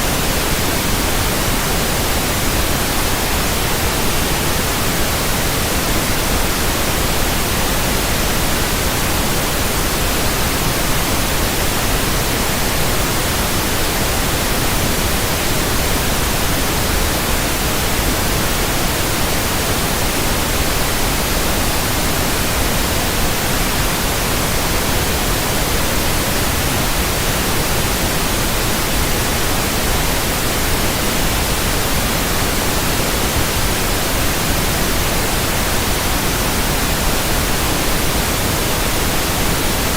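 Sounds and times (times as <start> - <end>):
loud static hiss: 0.0 - 39.9.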